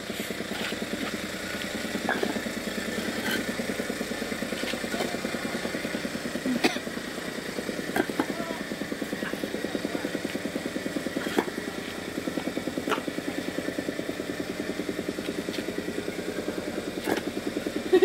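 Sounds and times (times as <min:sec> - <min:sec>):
soil compactor pounding: 0:00.0 - 0:18.0.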